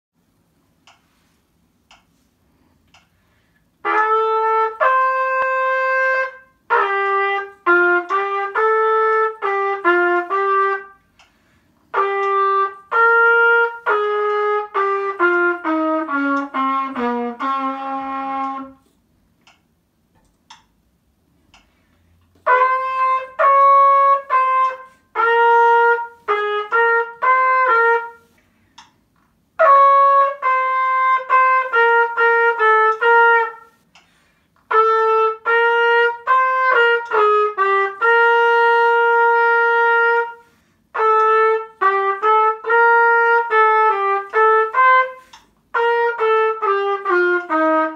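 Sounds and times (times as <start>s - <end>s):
solo trumpet melody: 3.8s - 19.0s, 22.3s - 28.8s, 29.5s - 33.9s, 34.6s - 47.9s.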